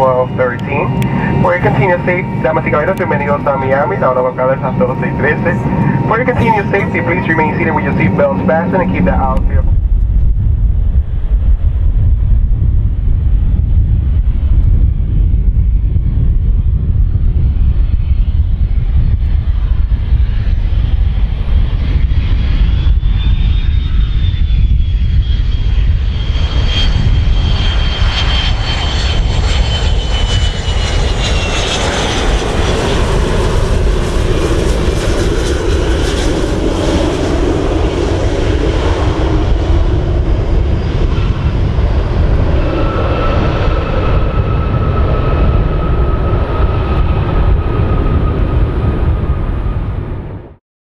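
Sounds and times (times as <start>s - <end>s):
aircraft engines rumbling in cabin: 0.0s - 50.6s
high jet engine whine: 0.0s - 50.6s.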